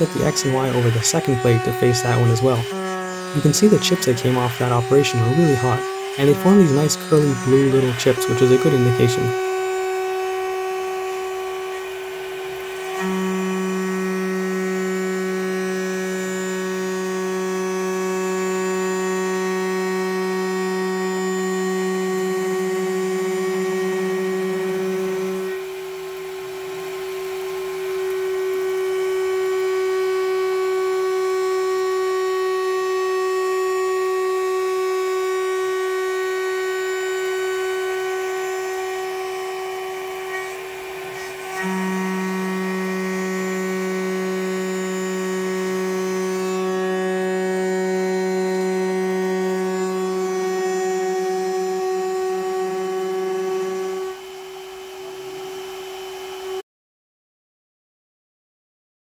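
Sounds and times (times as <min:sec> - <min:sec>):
milling cutter whine: 0:00.0 - 0:56.6.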